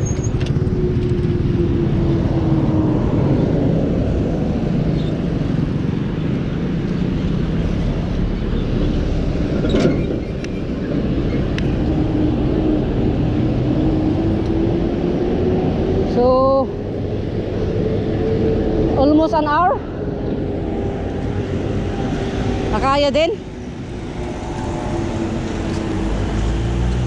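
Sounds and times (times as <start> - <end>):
rumble of traffic: 0.0 - 27.0
vehicle engine hum: 0.0 - 27.0.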